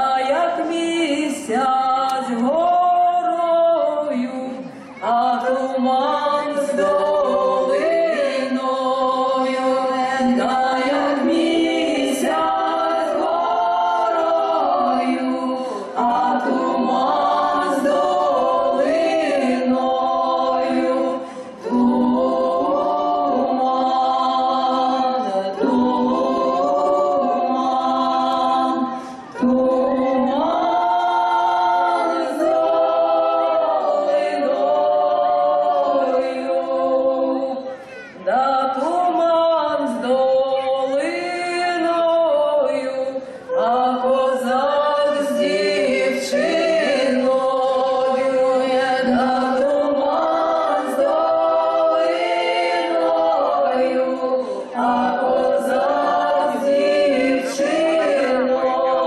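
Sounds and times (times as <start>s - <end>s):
women's choir singing unaccompanied: 0.0s - 59.0s.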